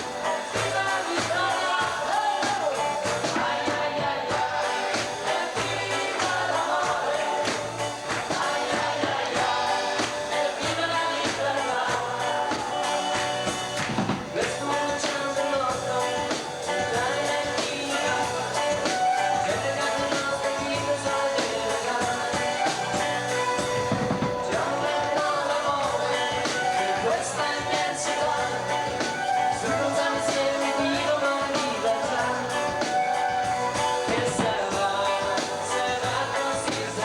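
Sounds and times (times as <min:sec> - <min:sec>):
person singing: 0:00.0 - 0:37.0
rock and roll band music: 0:00.0 - 0:37.0.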